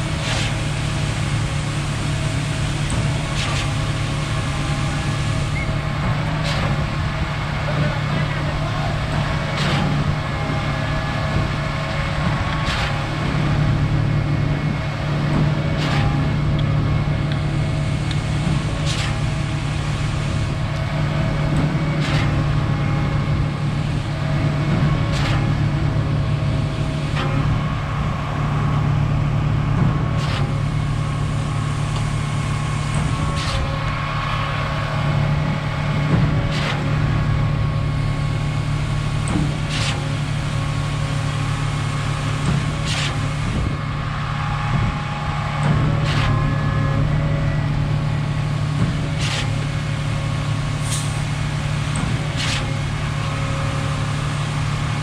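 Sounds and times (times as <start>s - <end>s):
pump truck engine droning: 0.0s - 55.0s.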